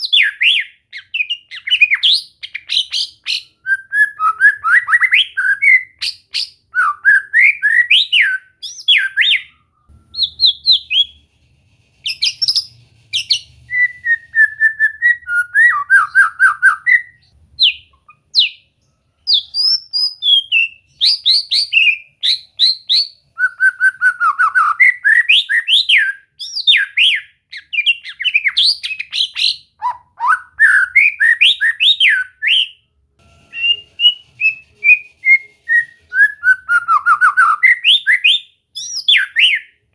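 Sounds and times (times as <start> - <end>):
bird singing whistles: 0.0 - 11.2, 12.1 - 18.6, 19.3 - 32.8, 33.4 - 39.8.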